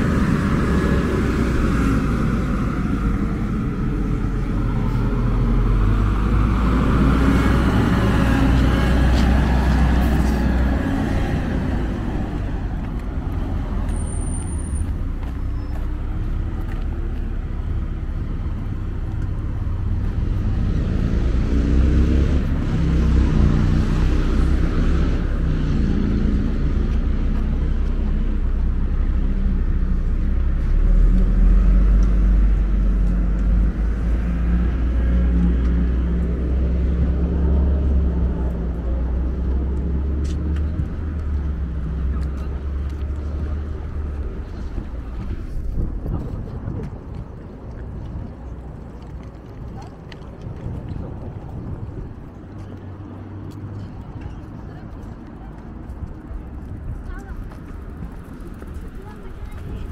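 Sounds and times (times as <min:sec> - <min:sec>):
bus pulling away: 0:00.0 - 0:59.9
traffic rumble: 0:00.0 - 0:59.9.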